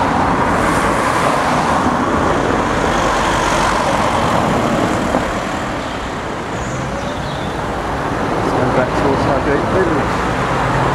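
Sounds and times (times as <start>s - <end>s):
road traffic passing: 0.0s - 10.9s.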